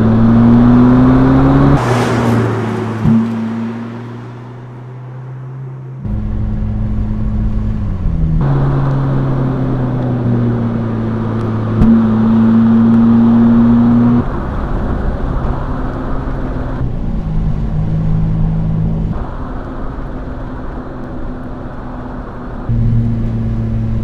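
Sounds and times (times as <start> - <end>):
car engine while driving: 0.0 - 24.0.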